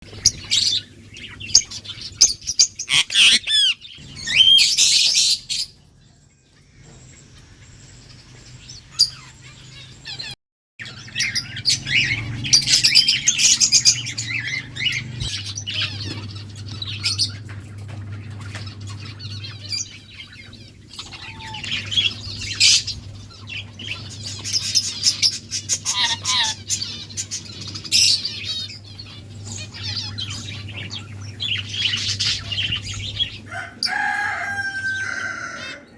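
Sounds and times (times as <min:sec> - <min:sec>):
parrots chirping: 0:00.2 - 0:05.6, 0:08.8 - 0:35.9.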